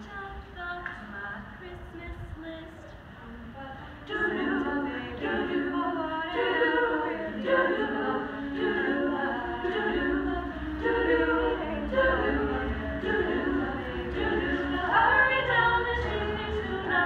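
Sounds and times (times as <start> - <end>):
women singing a cappella in harmony: 0.0 - 17.0.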